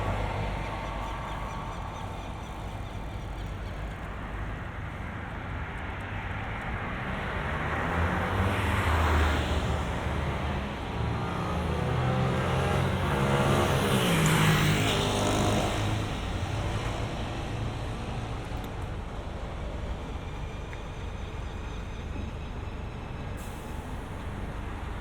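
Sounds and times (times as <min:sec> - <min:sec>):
traffic and tyre hum: 0:00.0 - 0:25.0.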